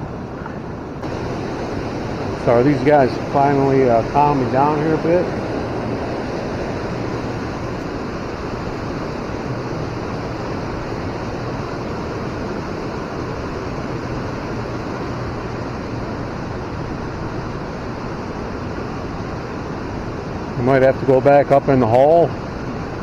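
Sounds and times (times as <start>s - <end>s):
river water rushing down steps: 0.2s - 23.0s.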